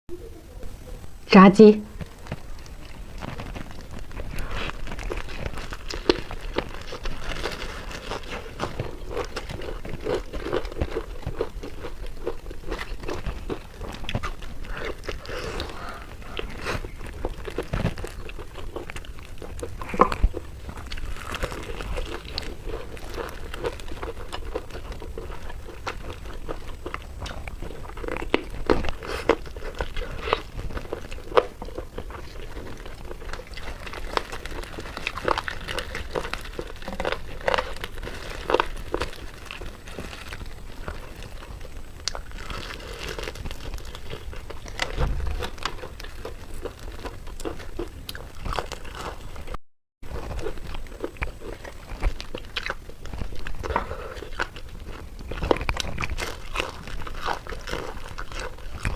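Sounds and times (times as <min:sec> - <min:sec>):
crunchy chewing of fried chicken: 0:01.9 - 0:58.9.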